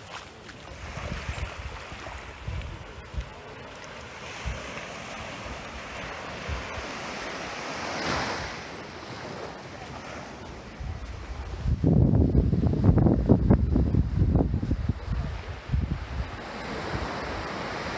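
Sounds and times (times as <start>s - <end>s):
small waves lapping on sandy beach: 0.0s - 17.9s
wind buffeting microphone: 0.8s - 3.4s, 4.2s - 8.5s, 10.4s - 17.8s.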